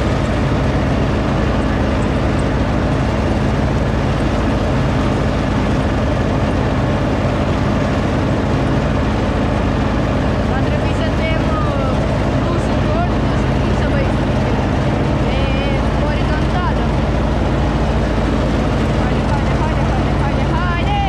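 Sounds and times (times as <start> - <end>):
lawn tractor engine droning: 0.0 - 21.0.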